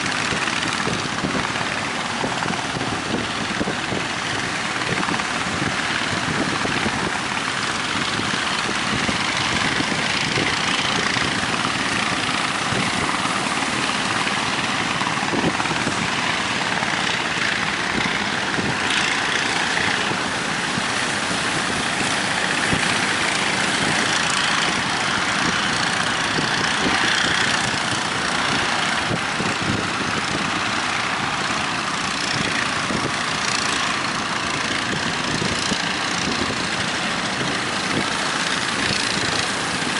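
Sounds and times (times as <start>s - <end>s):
boat engine running: 0.0s - 39.9s
rushing water: 0.0s - 39.9s
wind: 0.0s - 39.9s.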